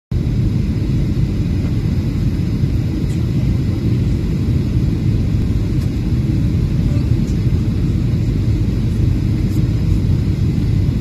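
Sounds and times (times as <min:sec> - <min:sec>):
airliner engines rumbling in cabin: 0:00.1 - 0:11.0.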